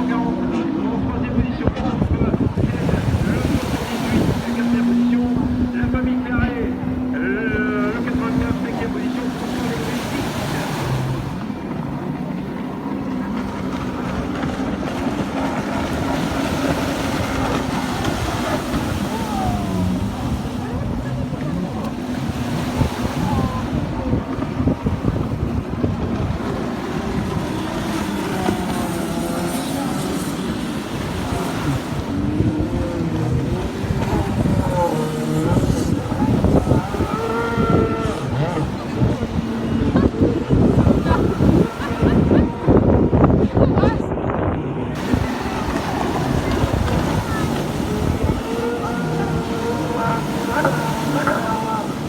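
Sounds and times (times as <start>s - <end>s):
jet ski engines droning: 0.0s - 52.0s
wind buffeting microphone: 0.0s - 52.0s.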